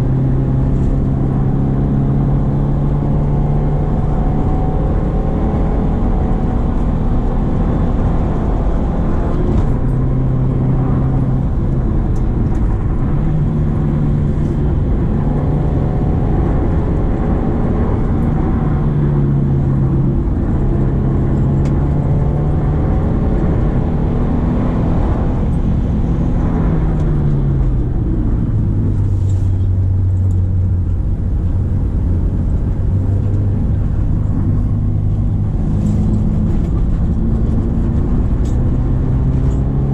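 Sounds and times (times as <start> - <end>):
car engine pulling uphill: 0.0 - 39.9.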